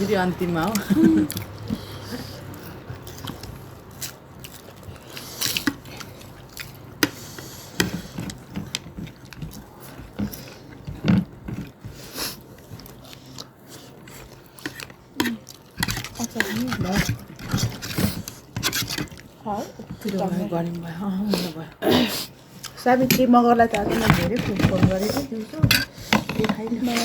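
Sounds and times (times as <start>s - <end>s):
people chewing and biting: 0.0s - 22.8s.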